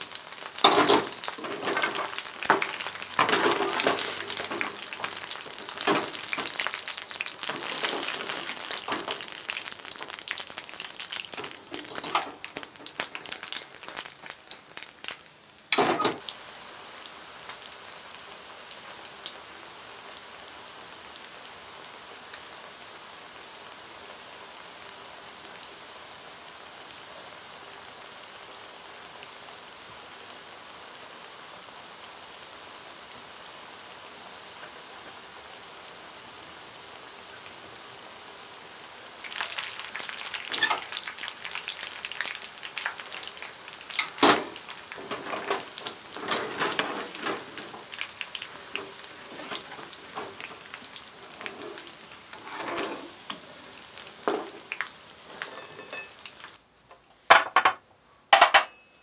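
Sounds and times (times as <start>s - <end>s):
food sizzling in frying pan: 0.0s - 56.6s.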